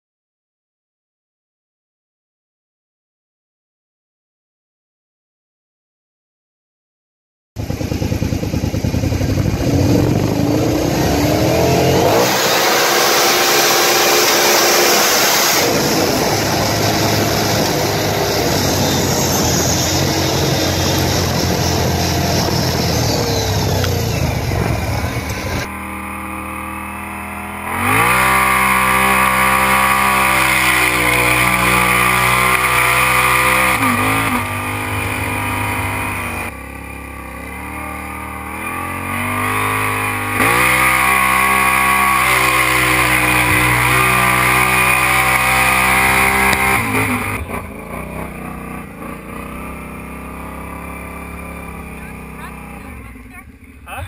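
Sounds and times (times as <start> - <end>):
engine revving: 7.6 - 54.0.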